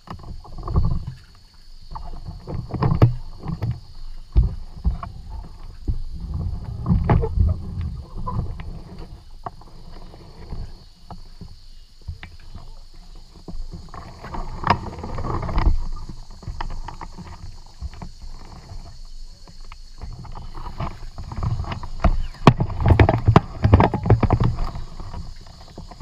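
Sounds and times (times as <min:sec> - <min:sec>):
kayak knocking and rattling: 0:00.0 - 0:26.0.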